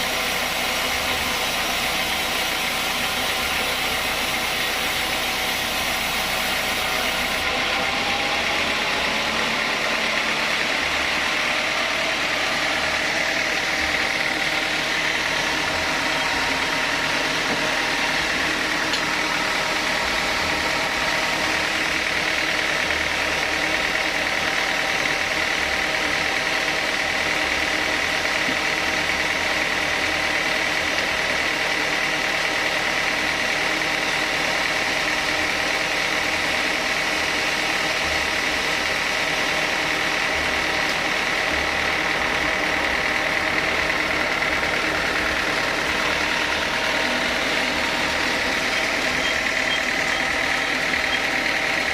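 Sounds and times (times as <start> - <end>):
saw cutting a log: 0.0 - 51.9.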